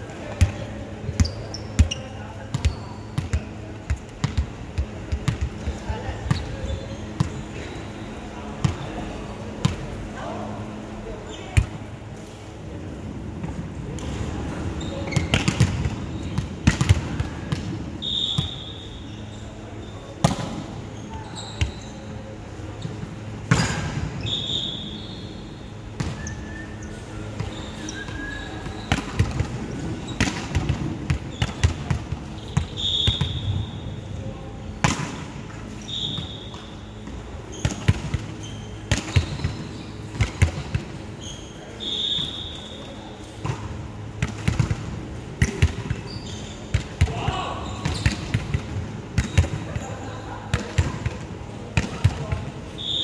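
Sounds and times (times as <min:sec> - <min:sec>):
sneakers squeaking on court: 0:00.2 - 0:09.0, 0:14.7 - 0:33.8, 0:35.6 - 0:44.7, 0:45.4 - 0:51.1.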